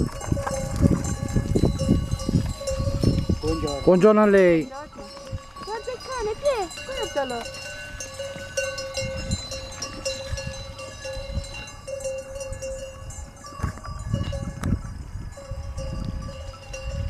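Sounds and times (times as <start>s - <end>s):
sheep bells clanking: 0.0s - 17.0s.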